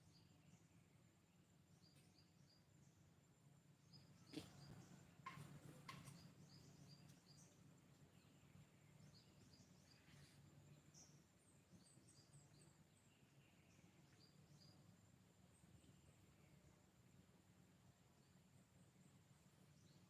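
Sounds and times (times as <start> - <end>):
faint birds chirping: 0.0 - 20.0
low steady hum: 0.0 - 20.0.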